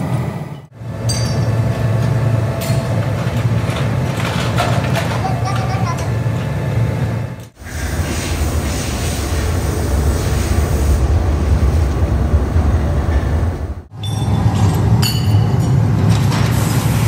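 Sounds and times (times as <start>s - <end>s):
furnace burner rumbling: 0.0s - 17.0s.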